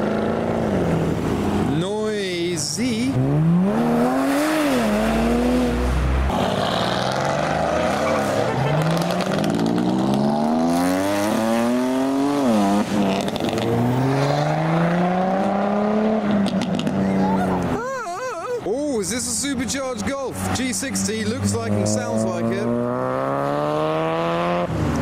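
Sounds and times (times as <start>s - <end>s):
car engines accelerating: 0.0s - 25.0s.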